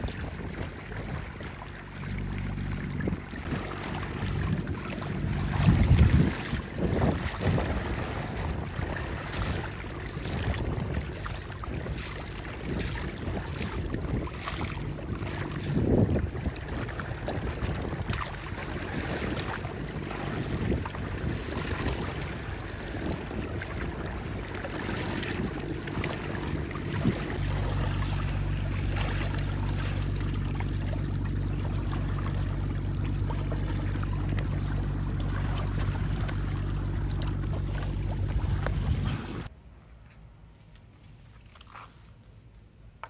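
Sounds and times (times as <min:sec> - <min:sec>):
low engine drone: 0:00.0 - 0:41.3.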